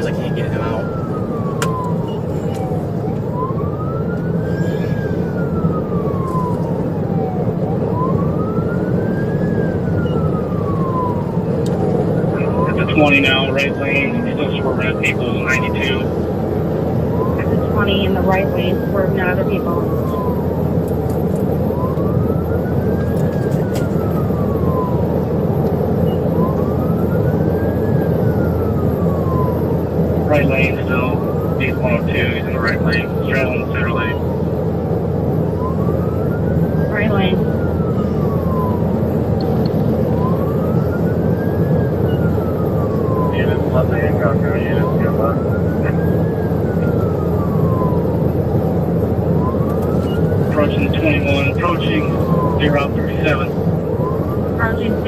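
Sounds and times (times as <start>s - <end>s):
police siren wailing: 0.0s - 55.0s
road and engine rumble: 0.0s - 55.0s.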